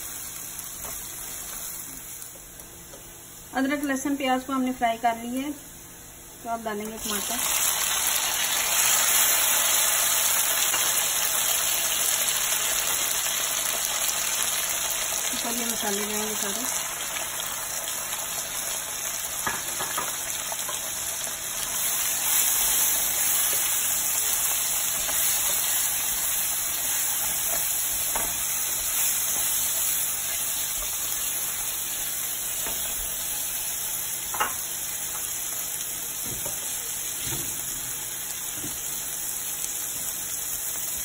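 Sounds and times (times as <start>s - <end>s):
food sizzling in oil: 0.0s - 2.6s, 6.5s - 41.0s.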